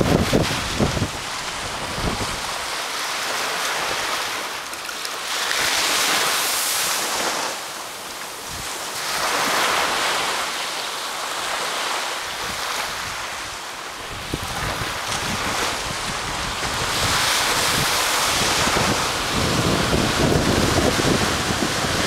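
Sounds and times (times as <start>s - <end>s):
waves washing onto sand beach: 0.0s - 22.0s.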